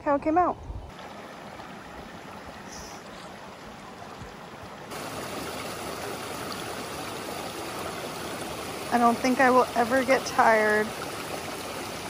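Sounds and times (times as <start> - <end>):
stream cascading over rocks: 0.9 - 12.0.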